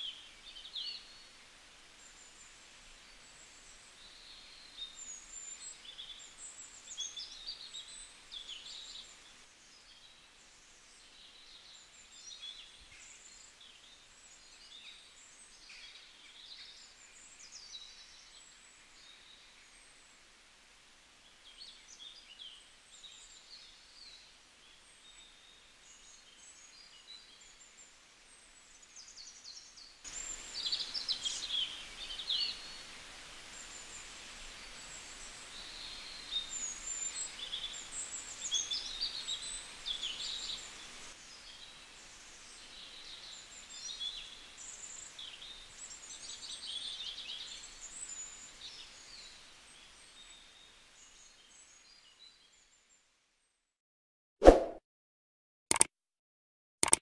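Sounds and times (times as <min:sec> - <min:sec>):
faint outdoor hiss: 0:00.0 - 0:53.5.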